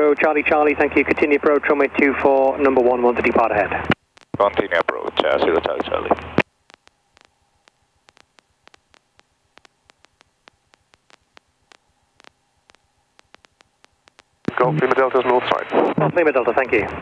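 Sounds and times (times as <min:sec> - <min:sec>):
radio static clicks and crackle: 0:00.0 - 0:17.0.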